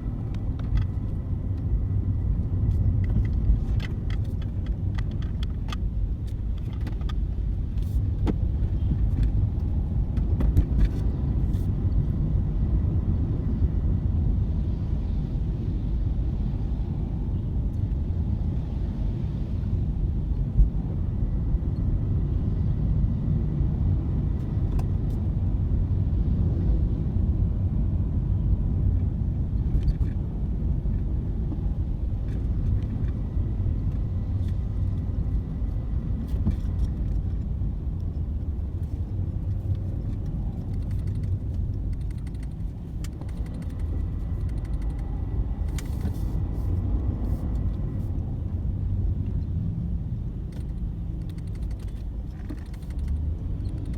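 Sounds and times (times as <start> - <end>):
car rumbling on road: 0.0 - 53.9.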